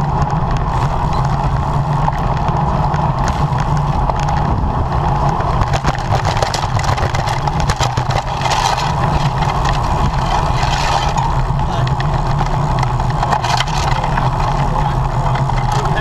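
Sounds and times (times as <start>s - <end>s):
bicycle road noise: 0.0s - 16.0s
bike clicks and rattles: 0.0s - 16.0s
rushing wind: 0.0s - 16.0s.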